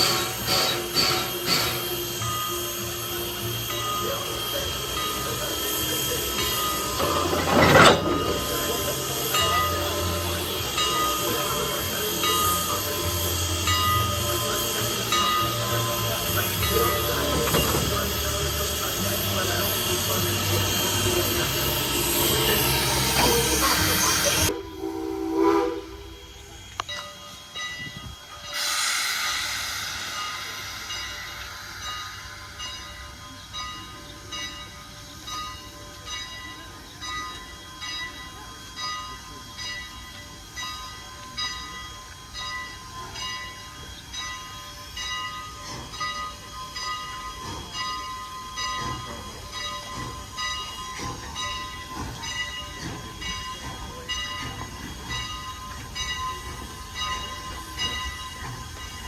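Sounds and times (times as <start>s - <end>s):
steam hiss: 0.0s - 59.0s
steam locomotive exhaust chuffs: 0.0s - 59.0s.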